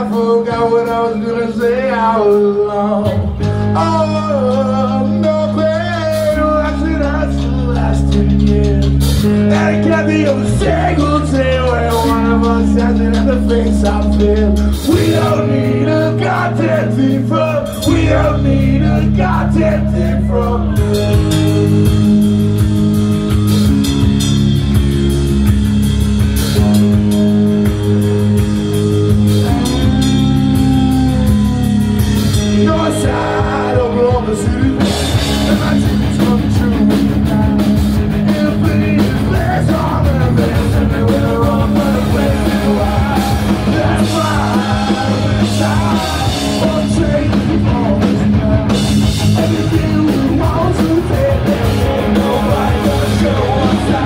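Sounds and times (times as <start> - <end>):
punk rock band playing live: 0.0 - 54.0.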